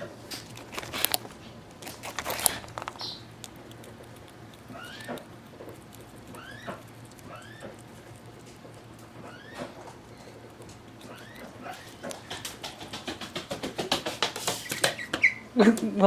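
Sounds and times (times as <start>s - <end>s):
squirrel gnawing pumpkin: 0.0s - 15.4s.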